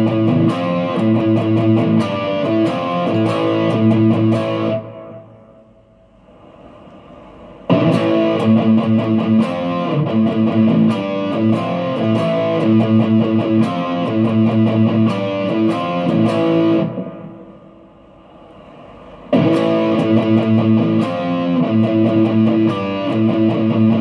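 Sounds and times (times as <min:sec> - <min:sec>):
overdriven electric guitar riff: 0:00.0 - 0:05.6, 0:07.7 - 0:17.5, 0:19.3 - 0:24.0.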